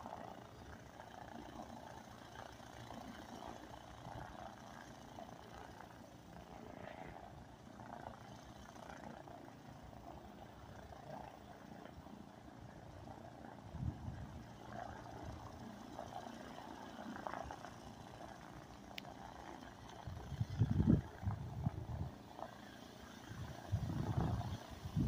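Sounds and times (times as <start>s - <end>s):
airplane engine idling: 0.0s - 25.0s.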